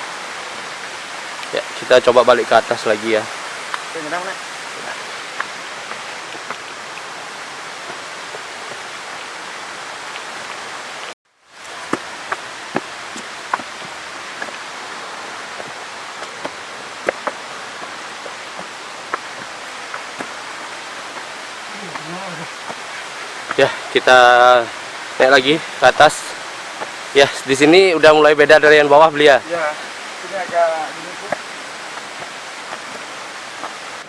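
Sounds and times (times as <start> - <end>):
rushing flowing water: 0.0 - 34.0.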